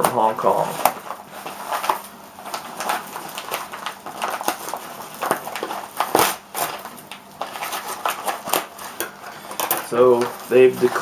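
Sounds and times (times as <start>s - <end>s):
package wrapping crinkling: 0.0s - 11.0s.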